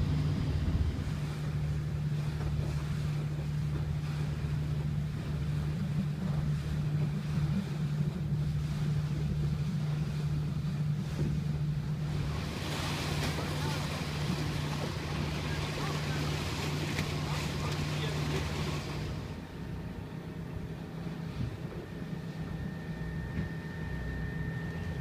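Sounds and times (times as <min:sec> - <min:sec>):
diesel engine low drone: 0:00.0 - 0:25.0.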